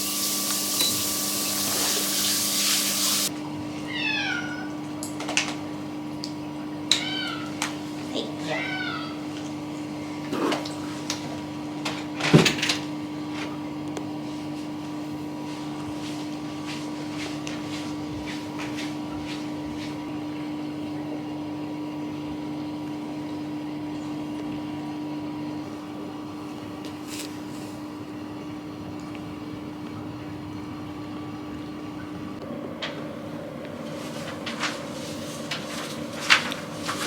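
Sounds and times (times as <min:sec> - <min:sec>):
appliance electrical hum: 0:00.0 - 0:37.0.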